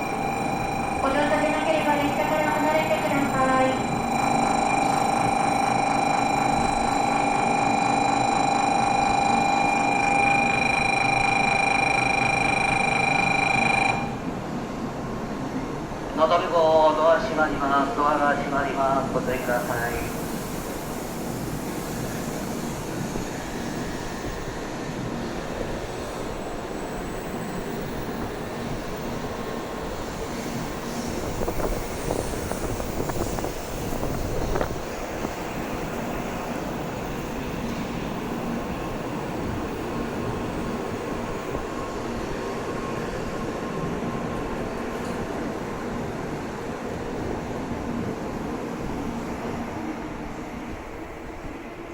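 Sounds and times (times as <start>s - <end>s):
train running noise: 0.0s - 51.9s.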